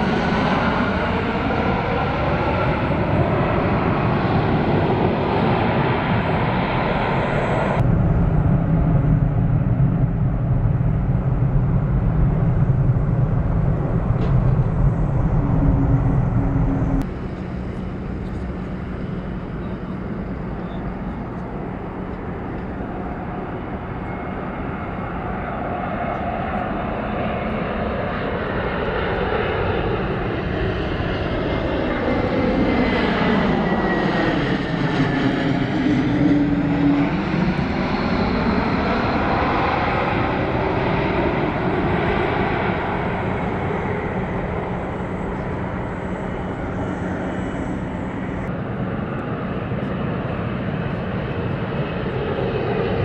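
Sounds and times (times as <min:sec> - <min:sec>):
jet engine whine falling in pitch: 0:00.0 - 0:53.0
jet engines passing: 0:00.0 - 0:53.0.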